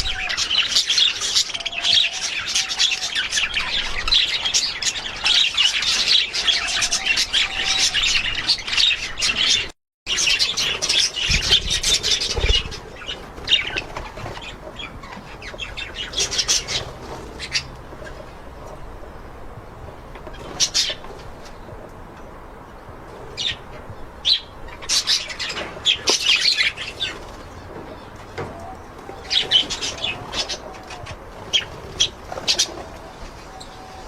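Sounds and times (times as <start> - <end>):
budgerigars chirping and squawking: 0.0 - 18.8, 20.2 - 21.1, 23.4 - 34.0.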